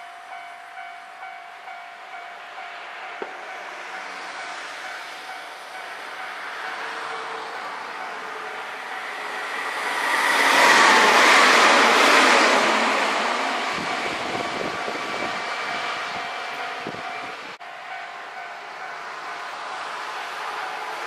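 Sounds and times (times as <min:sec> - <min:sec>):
passenger train passing: 0:00.0 - 0:21.0.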